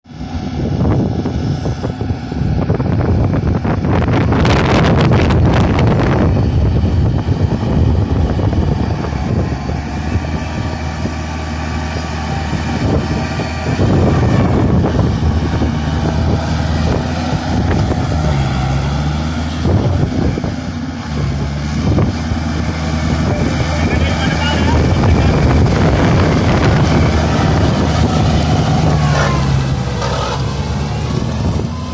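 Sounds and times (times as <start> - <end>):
rush of noise: 0.0 - 31.9
tractor diesel engine running: 0.0 - 31.9.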